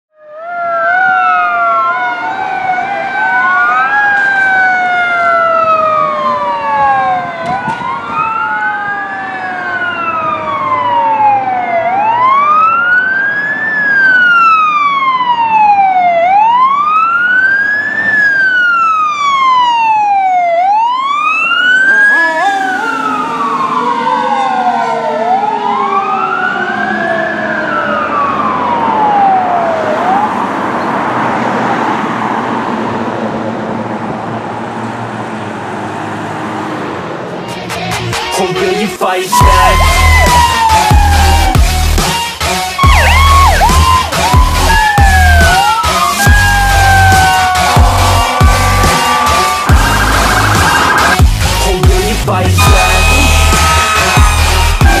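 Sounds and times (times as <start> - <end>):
fire engine siren wailing: 0.1 - 37.4, 39.3 - 55.0
lower siren tone sliding down: 0.2 - 31.9, 39.3 - 41.9, 42.8 - 51.6, 52.5 - 55.0.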